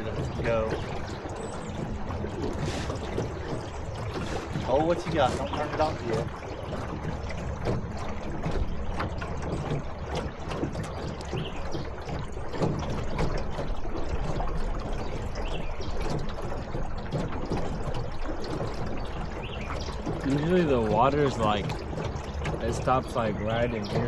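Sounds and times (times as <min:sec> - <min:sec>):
water sloshing around boat: 0:00.0 - 0:24.0.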